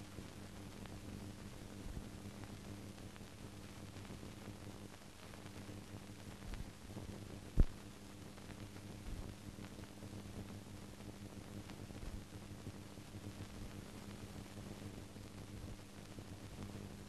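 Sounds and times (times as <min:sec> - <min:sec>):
electrical hum: 0:00.0 - 0:17.0
faint hiss: 0:00.0 - 0:17.0.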